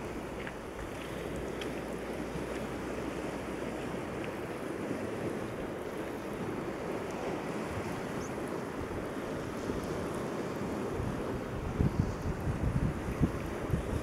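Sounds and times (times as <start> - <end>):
surf washing on rocky shore: 0.0 - 14.0
wind rumbling on microphone: 0.0 - 14.0.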